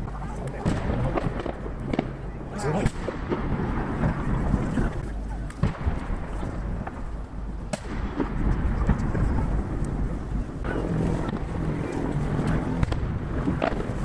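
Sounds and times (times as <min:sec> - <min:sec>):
distant fireworks booming: 0:00.0 - 0:14.0
sharp fireworks cracks: 0:00.0 - 0:14.0.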